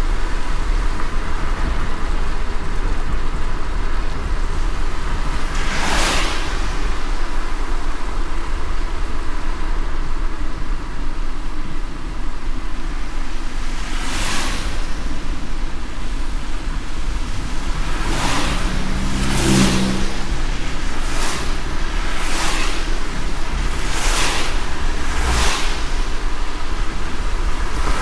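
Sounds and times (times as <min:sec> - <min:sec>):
car driving on wet road: 0:00.0 - 0:28.0.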